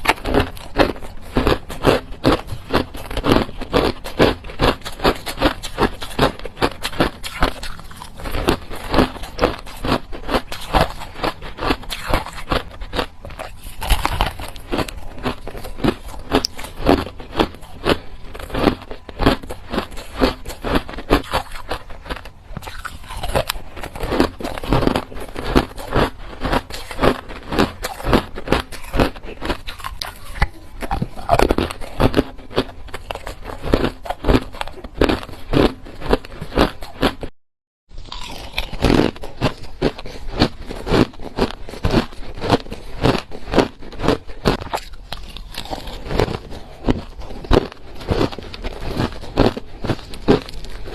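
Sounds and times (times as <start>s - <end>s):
ice being chewed: 0.0s - 37.3s, 37.9s - 50.9s.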